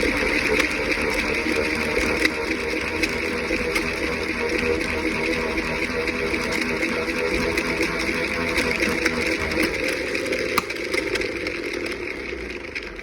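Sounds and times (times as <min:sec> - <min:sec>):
vacuum cleaner wheel buzzing: 0:00.0 - 0:13.0.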